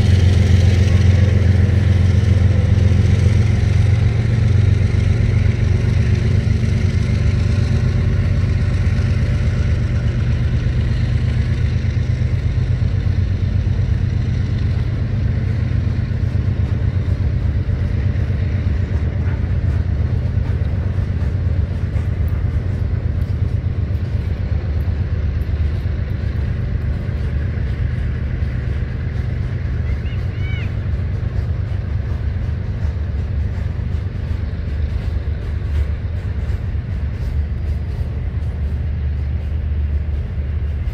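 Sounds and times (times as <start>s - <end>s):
freight train wheels clattering on rail: 0.0s - 40.9s.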